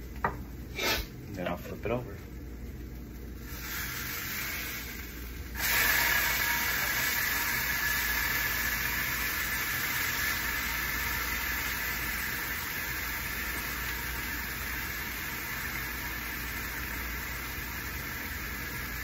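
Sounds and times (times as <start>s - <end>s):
patty sizzling in a frying pan: 0.0s - 19.0s.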